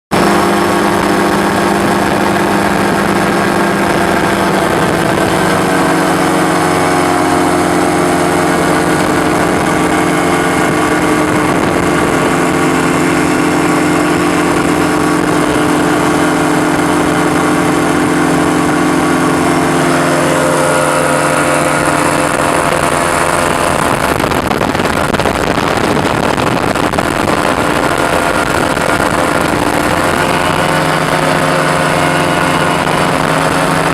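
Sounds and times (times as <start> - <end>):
constant rushing noise: 0.1 - 33.9
light aircraft engine in flight: 0.1 - 33.9.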